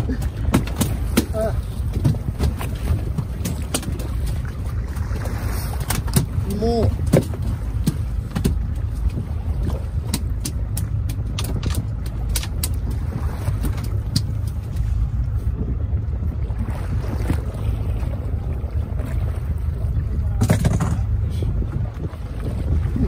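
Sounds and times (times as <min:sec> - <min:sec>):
sea noise: 0:00.0 - 0:23.0
wind rumbling on microphone: 0:00.0 - 0:23.0.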